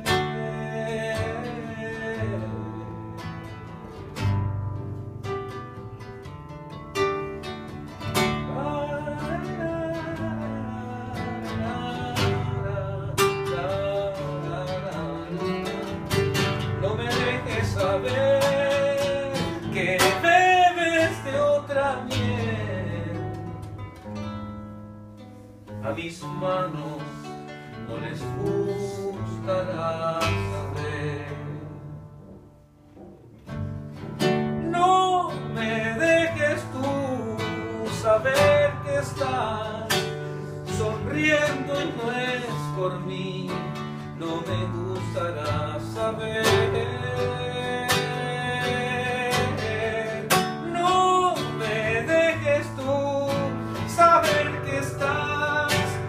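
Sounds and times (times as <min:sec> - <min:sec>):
guitar: 0:00.0 - 0:56.0.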